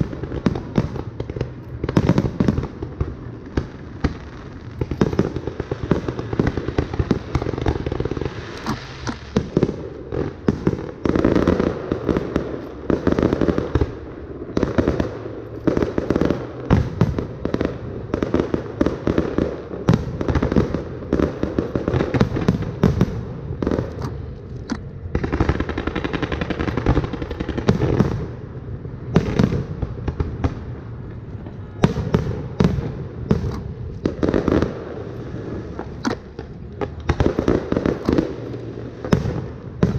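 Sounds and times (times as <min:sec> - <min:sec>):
fireworks bangs and crackling: 0:00.0 - 0:39.9
loud firework reports: 0:00.0 - 0:39.9.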